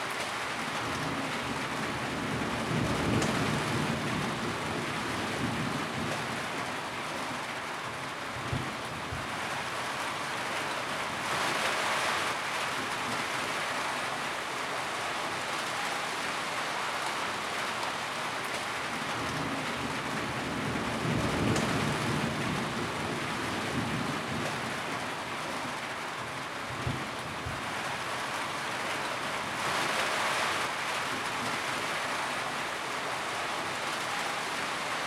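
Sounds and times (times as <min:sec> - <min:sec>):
rain drumming on a tin roof: 0:00.0 - 0:35.0.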